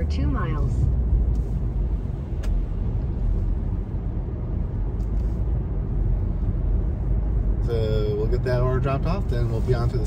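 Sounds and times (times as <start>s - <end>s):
car interior road rumble: 0.0s - 10.0s.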